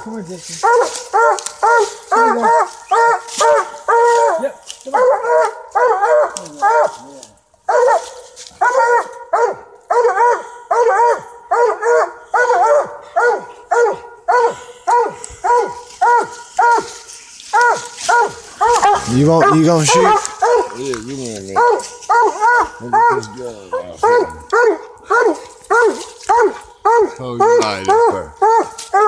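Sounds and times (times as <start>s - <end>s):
dogs barking: 0.0s - 29.0s.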